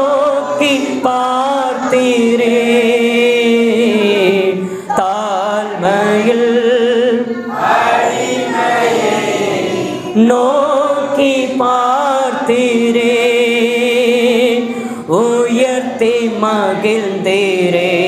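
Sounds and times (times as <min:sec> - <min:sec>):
man singing into microphone: 0:00.0 - 0:07.5, 0:10.1 - 0:18.0
voices singing a hymn: 0:00.0 - 0:18.0.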